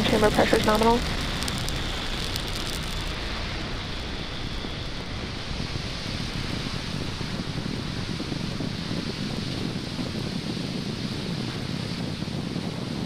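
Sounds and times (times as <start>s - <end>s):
rocket engines roaring: 0.0s - 13.0s.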